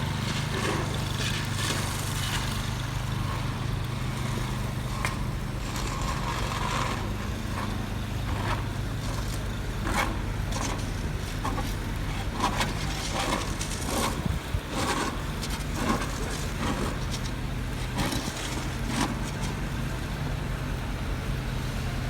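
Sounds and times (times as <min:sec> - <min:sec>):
engine running steadily: 0:00.0 - 0:22.0
light clicks and scrapes: 0:00.2 - 0:20.1.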